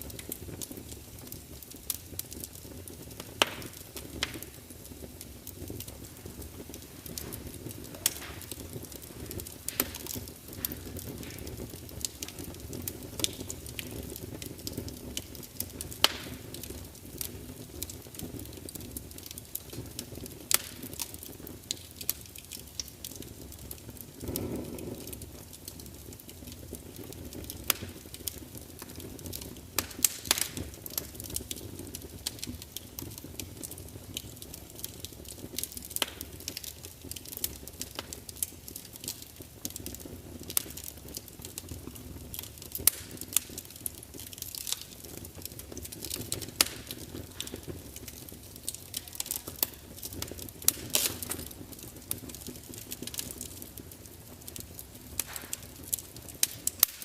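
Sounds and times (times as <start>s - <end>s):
fire rumbling: 0.0s - 57.0s
logs crackling and popping: 0.0s - 57.0s.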